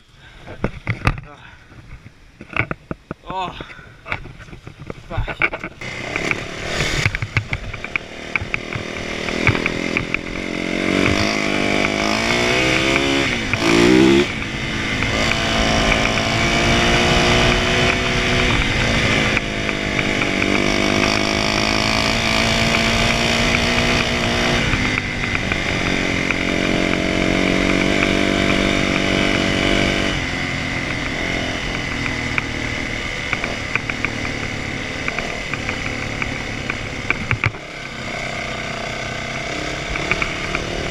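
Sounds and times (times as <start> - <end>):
motor engine revving: 5.8 - 40.9.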